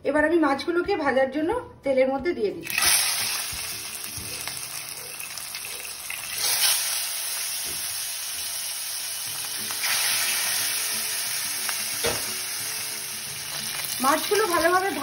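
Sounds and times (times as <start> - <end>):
fish sizzling in hot oil: 2.7 - 15.0.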